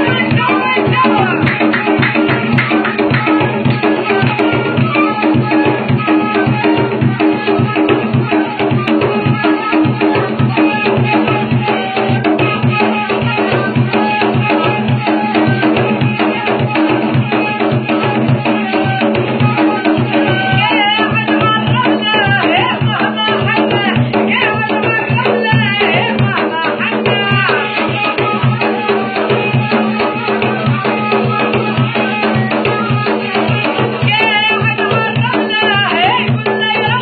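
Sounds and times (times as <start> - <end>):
hand drum rhythm: 0.0 - 37.0.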